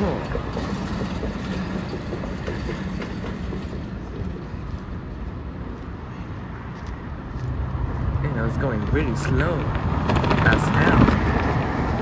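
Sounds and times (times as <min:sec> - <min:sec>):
freight train rumbling on track: 0:00.0 - 0:12.0.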